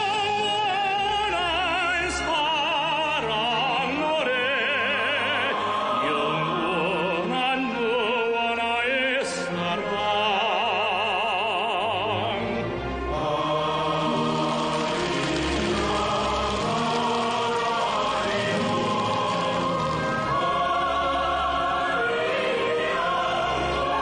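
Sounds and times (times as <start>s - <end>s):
instrumental accompaniment: 0.0s - 24.0s
operatic singing with vibrato: 0.0s - 24.0s.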